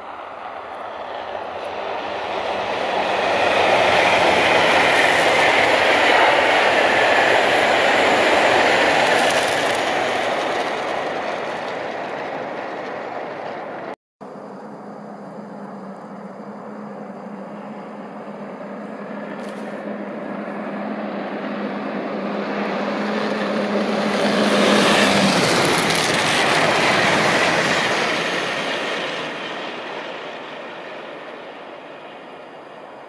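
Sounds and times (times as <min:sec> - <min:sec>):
high-speed train rushing past: 0:00.0 - 0:33.0.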